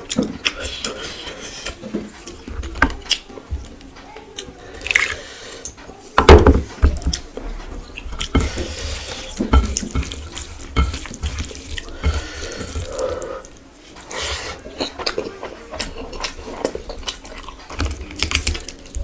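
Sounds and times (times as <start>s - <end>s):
wet chewing sounds: 0.0s - 5.8s, 7.0s - 19.0s.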